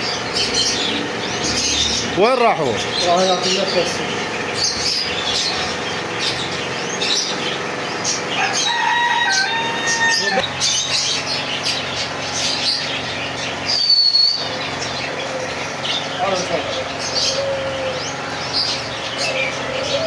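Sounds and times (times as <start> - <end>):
caged birds chirping: 0.0 - 20.0.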